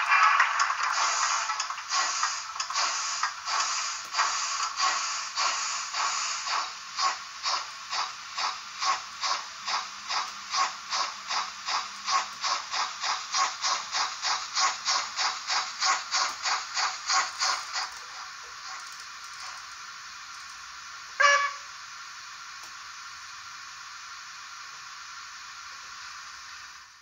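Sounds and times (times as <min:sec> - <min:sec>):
model locomotive steam chuffs: 0:00.0 - 0:27.0.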